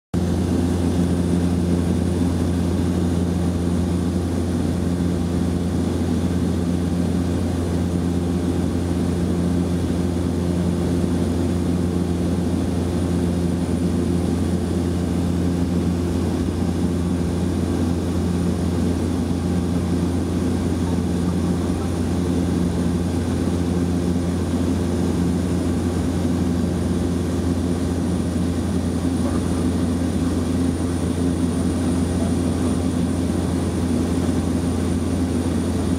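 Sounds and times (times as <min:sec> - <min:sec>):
propeller aircraft engine droning: 0:00.2 - 0:35.9.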